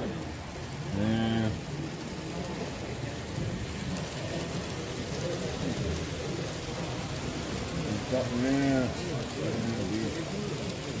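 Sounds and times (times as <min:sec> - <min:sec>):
many indistinct voices: 0:00.0 - 0:11.0.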